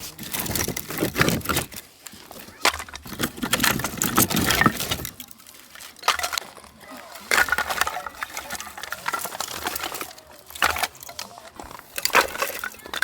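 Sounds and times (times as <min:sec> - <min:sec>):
hard objects clinking together: 0:00.0 - 0:13.0.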